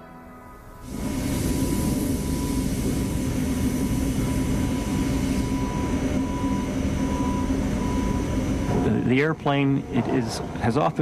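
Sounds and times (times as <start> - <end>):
jet engines running: 0.6 - 11.0.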